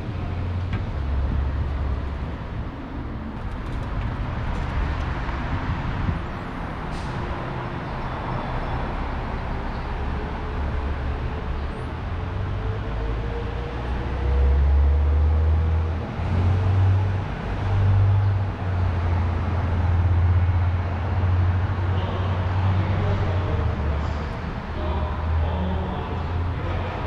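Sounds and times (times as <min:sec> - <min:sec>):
deep rumble of buses: 0:00.0 - 0:27.0.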